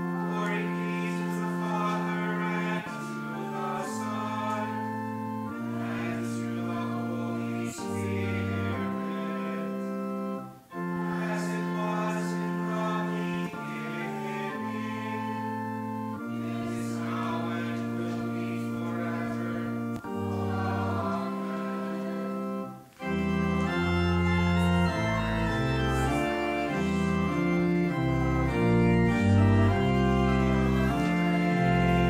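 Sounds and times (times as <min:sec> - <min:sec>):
church organ chords: 0:00.0 - 0:32.0.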